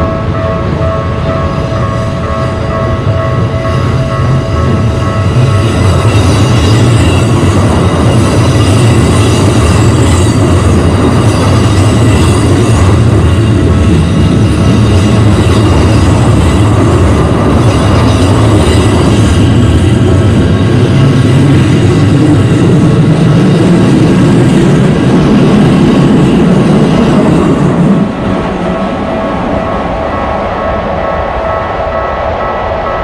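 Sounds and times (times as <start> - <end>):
level crossing warning bell: 0.0 - 25.0, 27.7 - 33.0
train wheels rumbling on rails: 0.0 - 33.0.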